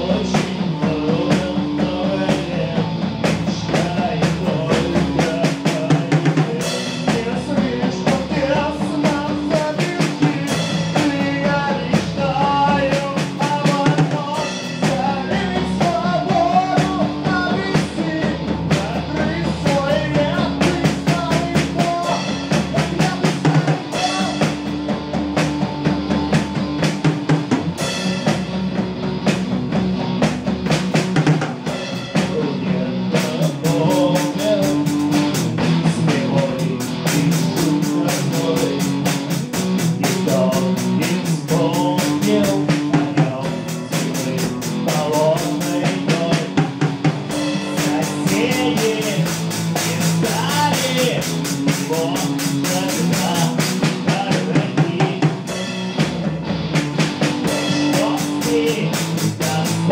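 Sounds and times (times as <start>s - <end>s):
rock drumming: 0.0s - 59.9s
electric guitar melody: 6.4s - 59.9s.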